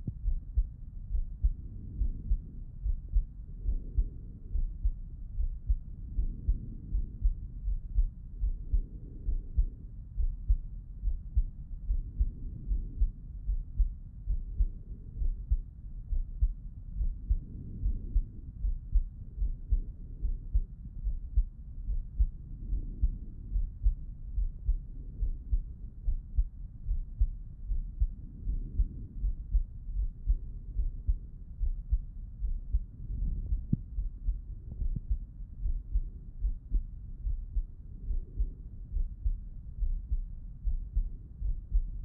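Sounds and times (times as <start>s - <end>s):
heartbeat thumps: 0.0s - 42.0s.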